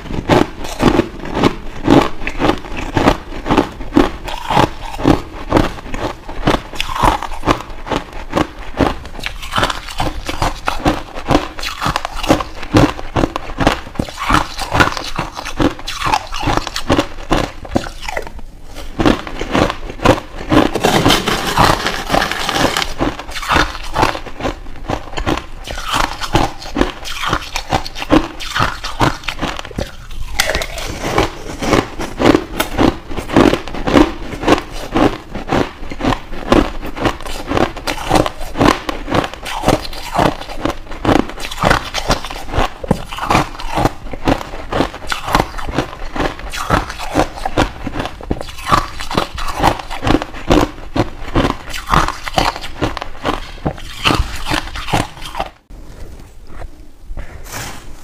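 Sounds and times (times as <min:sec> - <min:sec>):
person chewing crushed ice: 0:00.0 - 0:55.7.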